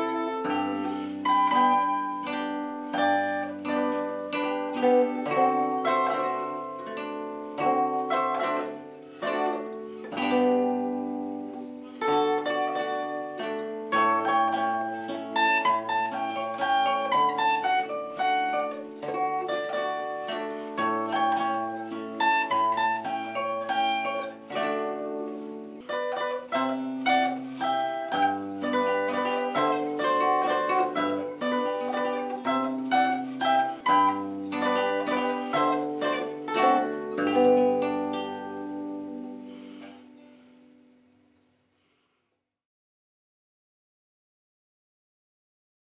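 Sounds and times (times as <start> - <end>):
zither plucked melody: 0.0 - 41.0.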